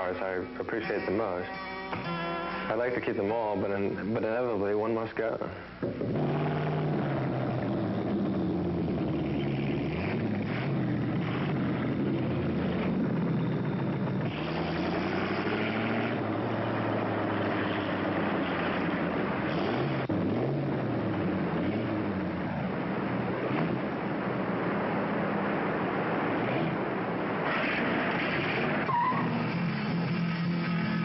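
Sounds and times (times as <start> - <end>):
car engine revving: 5.8 - 31.0.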